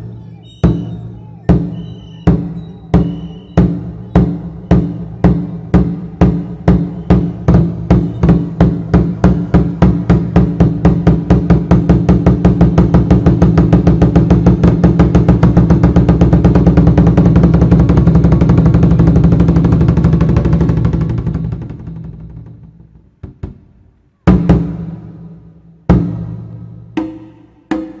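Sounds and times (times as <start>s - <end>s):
large drum beating: 0.0s - 28.0s.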